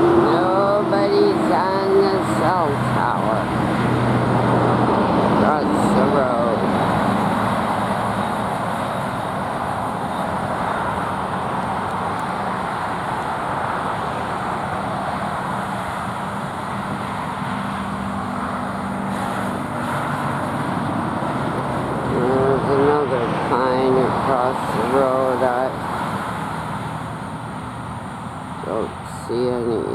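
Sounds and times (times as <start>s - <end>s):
passing cars: 0.0s - 29.9s.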